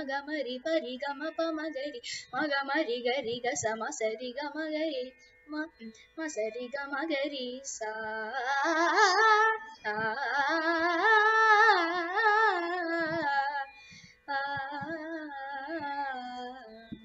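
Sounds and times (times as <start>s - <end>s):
girl singing wordless melody: 0.0s - 17.0s.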